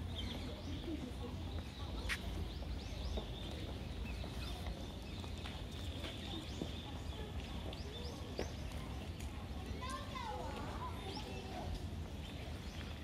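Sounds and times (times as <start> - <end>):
birds chirping: 0.0 - 13.0
footsteps on stone paving: 0.1 - 13.0.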